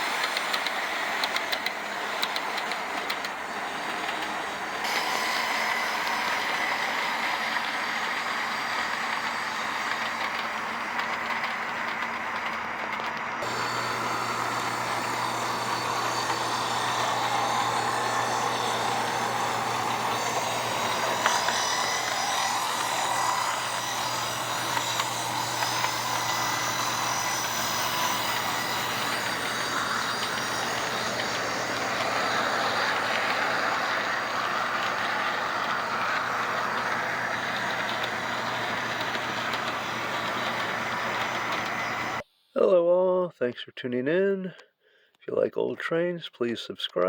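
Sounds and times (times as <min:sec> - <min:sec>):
locomotive engine drone: 0:00.0 - 0:42.2.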